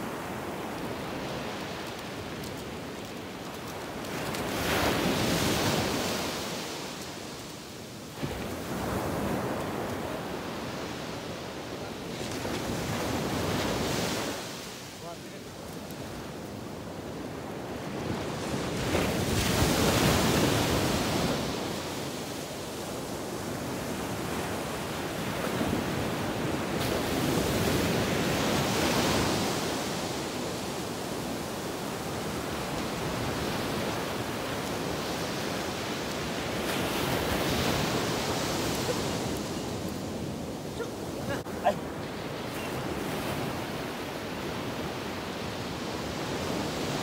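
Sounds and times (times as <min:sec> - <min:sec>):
ocean surf breaking on beach: 0:00.0 - 0:47.0.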